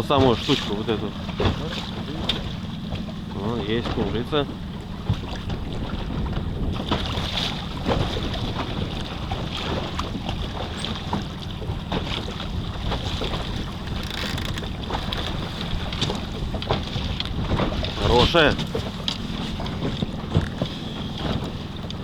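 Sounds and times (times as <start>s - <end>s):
water around boat hull: 0.0s - 22.0s
wind rumbling on microphone: 0.0s - 22.0s.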